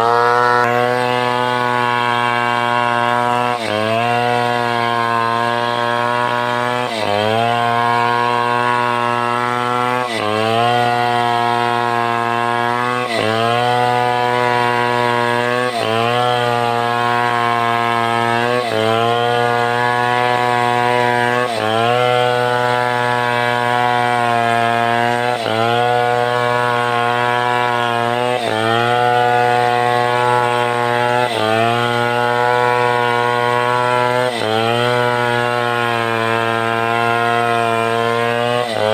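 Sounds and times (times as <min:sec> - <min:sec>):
chainsaw sawing timber: 0:00.0 - 0:38.9.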